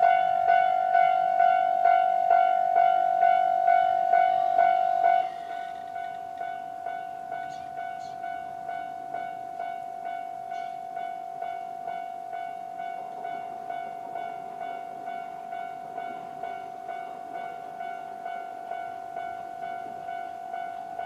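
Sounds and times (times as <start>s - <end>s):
level-crossing warning bell: 0.0s - 21.0s.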